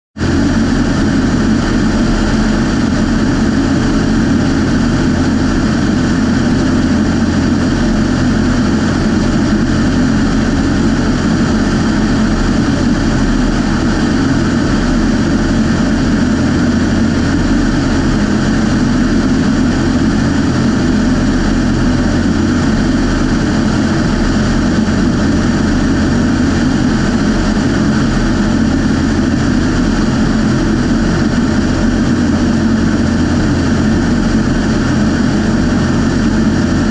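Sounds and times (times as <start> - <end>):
aircraft engine and propeller droning: 0.2 - 36.9.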